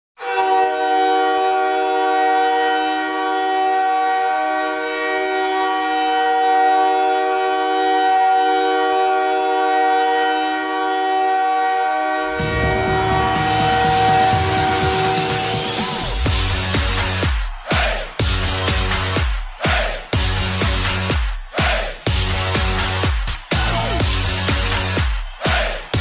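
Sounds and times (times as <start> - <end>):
arena goal horn blast: 0.2 - 26.0.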